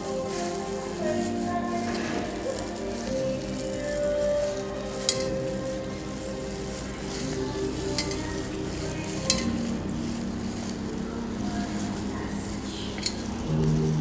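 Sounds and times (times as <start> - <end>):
crackly rustling scrunch in bowl: 0.0 - 14.0.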